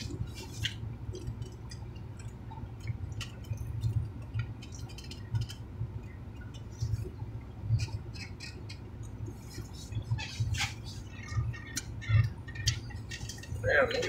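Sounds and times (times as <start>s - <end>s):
people chewing and lip smacking: 0.0s - 14.0s
steady low hum: 0.0s - 14.0s.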